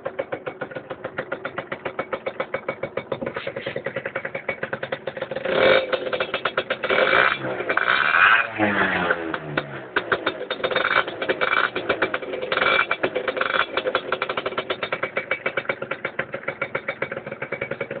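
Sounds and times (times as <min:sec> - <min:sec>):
scooter engine revving and idling: 0:00.0 - 0:18.0.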